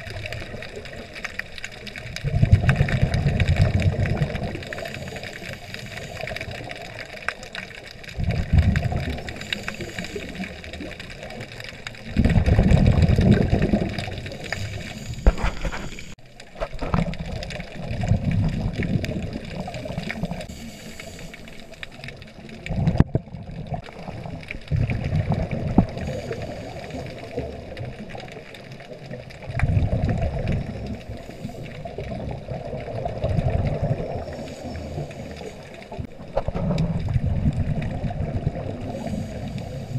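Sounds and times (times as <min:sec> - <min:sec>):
underwater exhaled bubbles: 0:00.0 - 0:39.9
water rushing against camera: 0:00.0 - 0:39.9.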